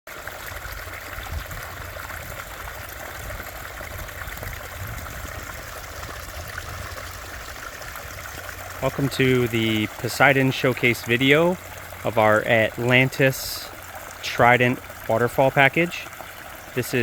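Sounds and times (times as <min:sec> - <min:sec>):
water splashing over small waterfalls: 0:00.1 - 0:17.0.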